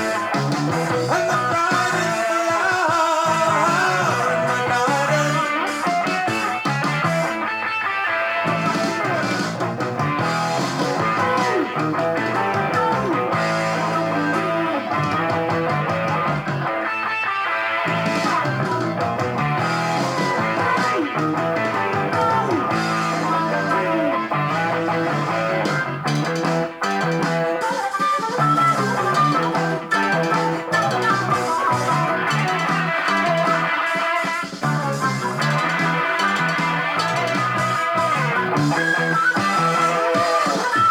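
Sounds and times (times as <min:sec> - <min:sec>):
instrumental rock music with guitar: 0:00.0 - 0:40.9.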